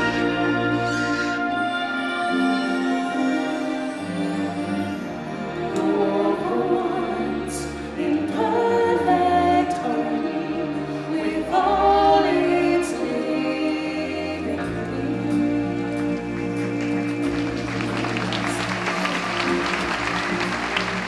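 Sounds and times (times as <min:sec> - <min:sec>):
choir singing held notes: 0:00.0 - 0:21.0
sustained backing music: 0:00.0 - 0:21.0.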